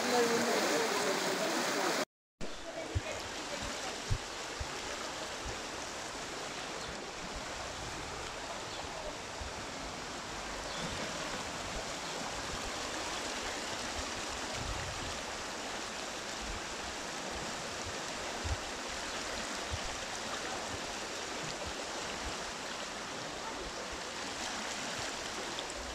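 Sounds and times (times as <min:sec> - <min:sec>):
floodwater rushing down a stream: 0:00.0 - 0:25.9.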